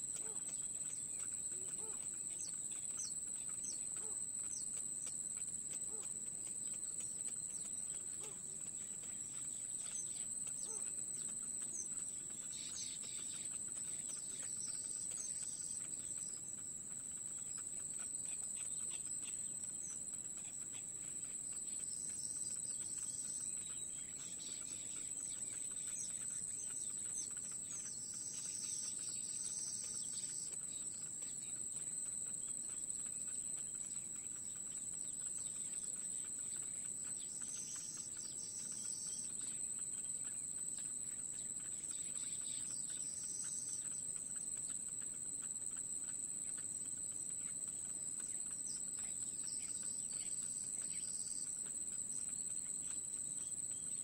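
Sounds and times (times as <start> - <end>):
high-pitched insect drone: 7.4 - 54.0.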